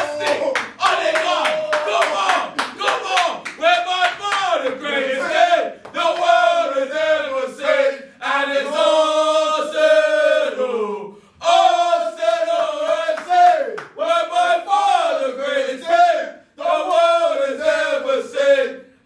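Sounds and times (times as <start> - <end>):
men chanting and singing: 0.0 - 18.8.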